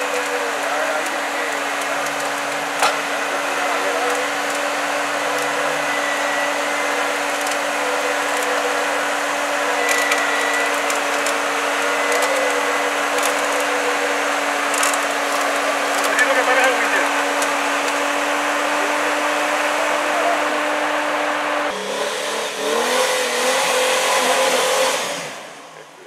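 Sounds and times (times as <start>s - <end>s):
whirring mechanical noise: 0.0s - 26.0s.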